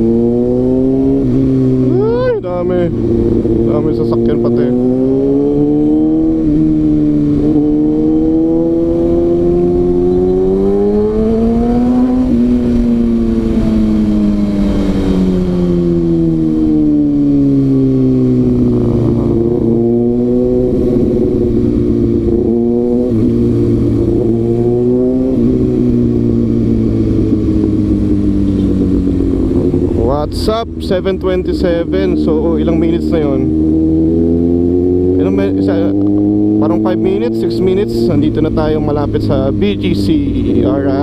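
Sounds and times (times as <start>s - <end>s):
motorcycle engine shifting gears: 0.0s - 41.0s.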